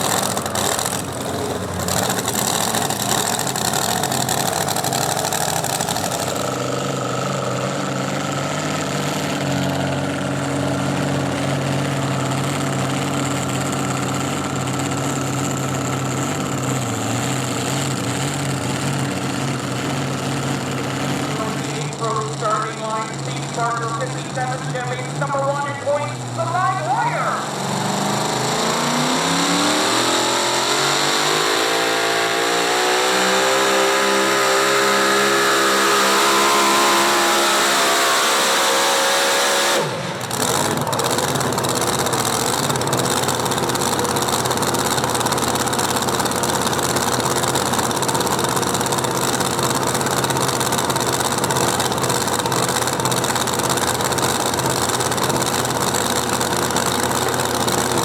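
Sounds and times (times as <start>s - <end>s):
truck engine at full throttle: 0.0s - 58.0s.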